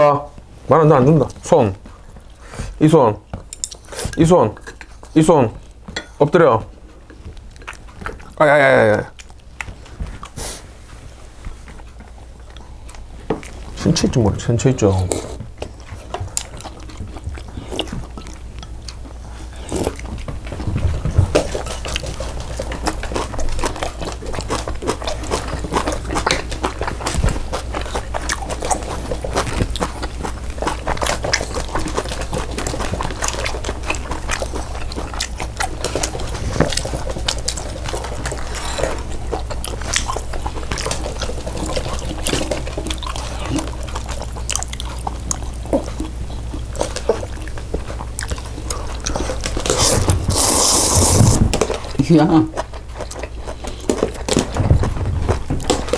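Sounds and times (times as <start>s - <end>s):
wet smacking eating sounds: 6.7s - 10.7s, 11.4s - 55.9s.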